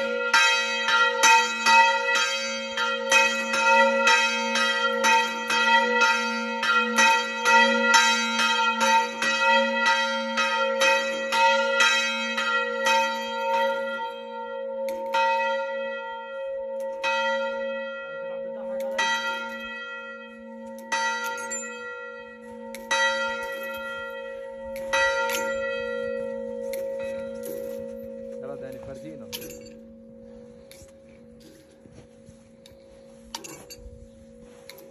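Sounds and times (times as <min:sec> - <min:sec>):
church bell ringing: 0:00.0 - 0:34.9.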